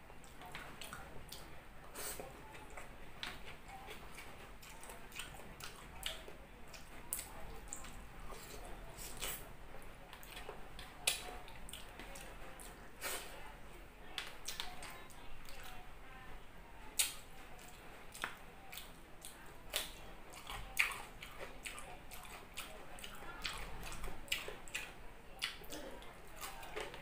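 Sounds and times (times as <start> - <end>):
wet chewing and lip-smacking: 0.2 - 9.4, 10.1 - 13.2, 14.2 - 15.8, 17.0 - 27.0.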